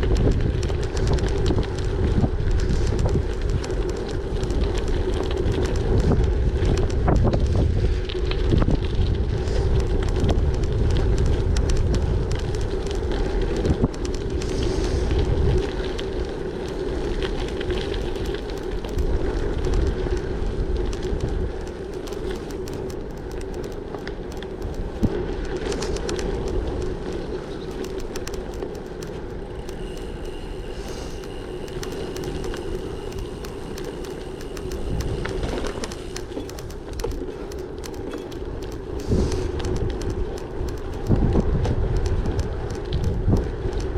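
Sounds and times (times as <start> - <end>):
bike tyres rolling on gravel: 0.0 - 43.9
wind buffeting microphone: 0.0 - 43.9.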